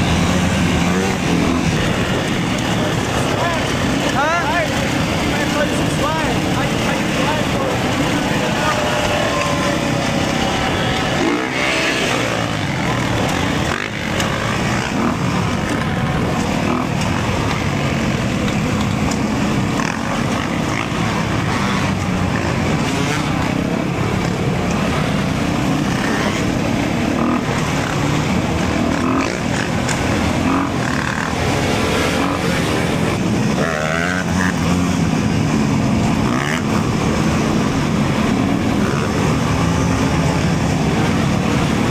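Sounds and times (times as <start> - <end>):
dirt bike engines running: 0.0 - 41.9.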